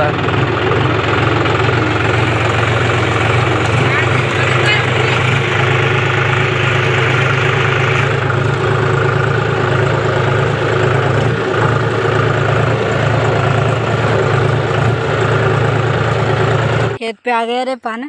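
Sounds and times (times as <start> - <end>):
tractor diesel engine running: 0.0 - 17.4.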